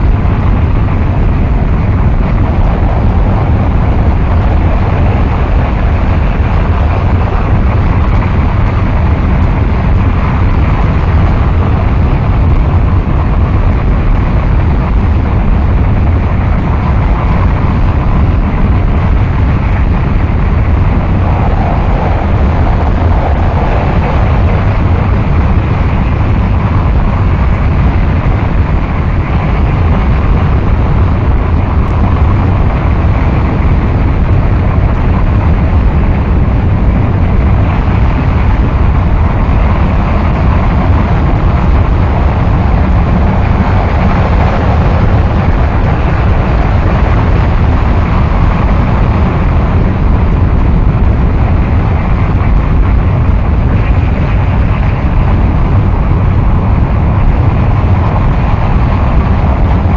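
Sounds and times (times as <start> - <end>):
dense harsh noise wall: 0.0 - 59.9.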